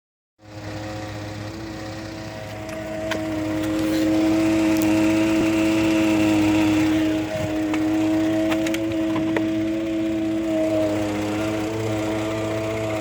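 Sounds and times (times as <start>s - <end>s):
truck engine idling drone: 0.4s - 13.0s.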